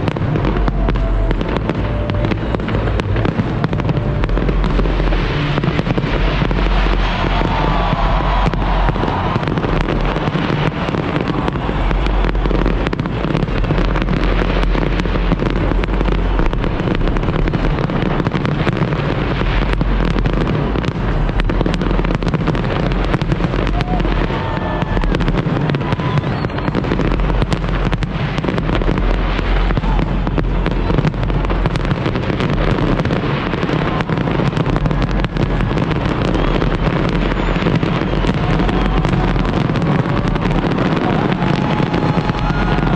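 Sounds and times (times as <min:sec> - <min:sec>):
fireworks crackling and banging: 0:00.0 - 0:42.9.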